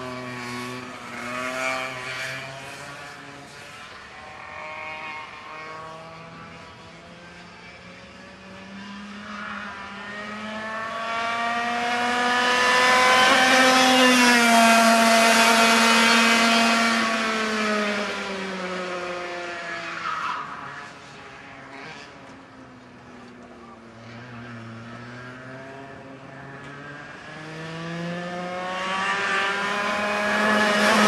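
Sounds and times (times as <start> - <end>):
kart engine at high revs: 0.0 - 22.6, 23.7 - 31.0.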